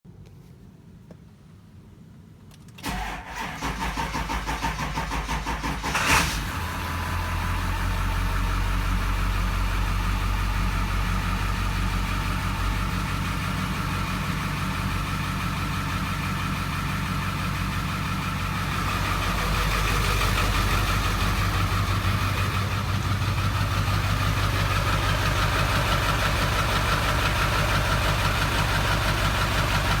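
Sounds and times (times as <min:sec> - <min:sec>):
engine cranking and idling: 0:02.5 - 0:30.0.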